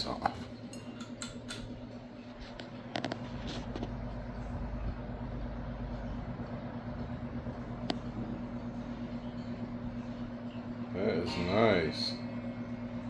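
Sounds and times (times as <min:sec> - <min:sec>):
box fan running: 0:00.0 - 0:13.0.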